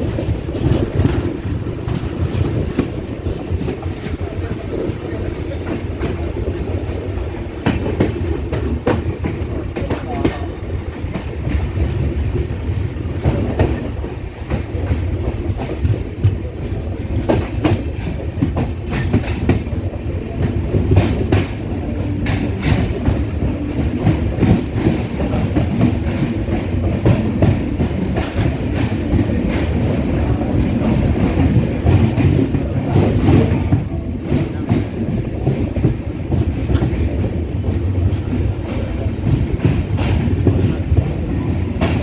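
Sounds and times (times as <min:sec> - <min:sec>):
train low rumble: 0:00.0 - 0:42.0.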